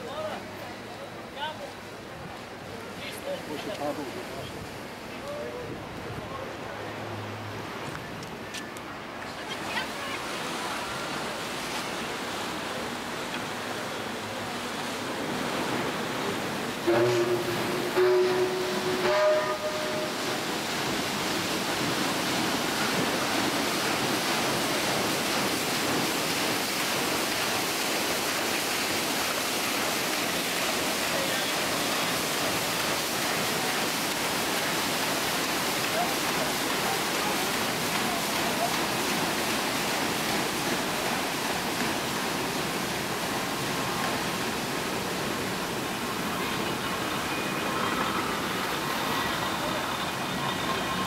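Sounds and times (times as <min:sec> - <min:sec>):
rush of churned water: 0:00.0 - 0:51.0.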